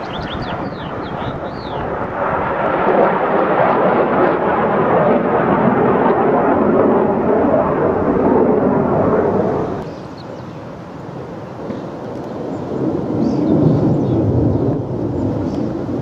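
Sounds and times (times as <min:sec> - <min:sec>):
jet roaring overhead: 0:00.0 - 0:16.0.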